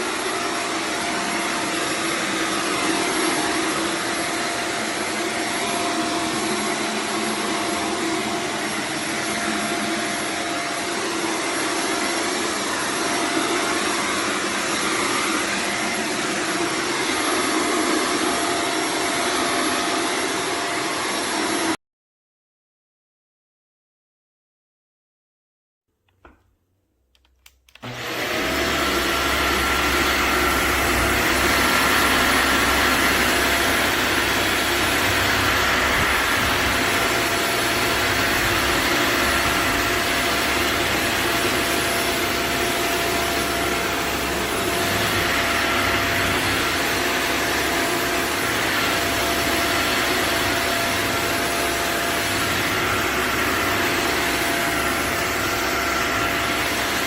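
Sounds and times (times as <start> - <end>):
vacuum cleaner running: 0.0 - 21.8, 27.2 - 57.0.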